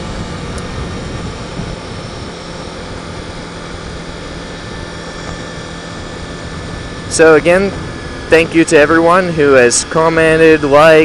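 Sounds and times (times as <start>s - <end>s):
motorcycle engine cruising: 0.0s - 11.0s
wind and road rush: 0.0s - 11.0s.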